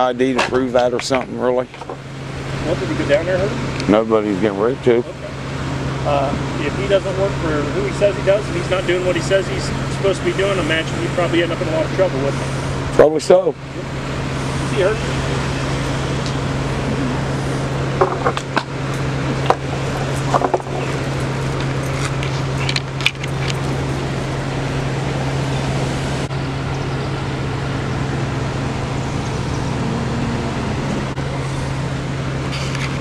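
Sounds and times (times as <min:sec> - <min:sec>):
vehicle engines idling: 0:00.0 - 0:33.0.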